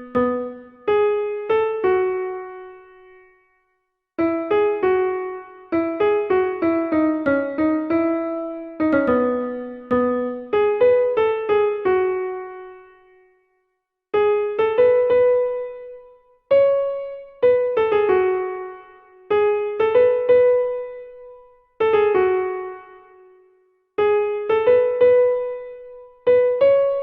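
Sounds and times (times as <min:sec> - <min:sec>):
electric piano melody: 0:00.0 - 0:03.4, 0:04.2 - 0:13.3, 0:14.1 - 0:27.0.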